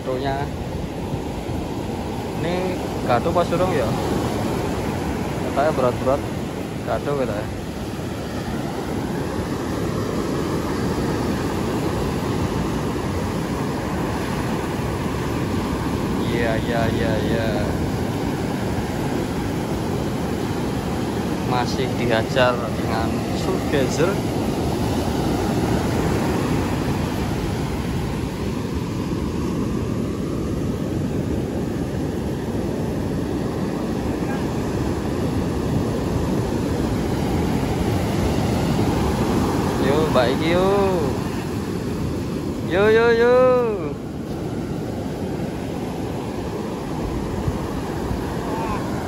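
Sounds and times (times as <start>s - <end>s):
surf breaking on beach: 0.0s - 49.0s.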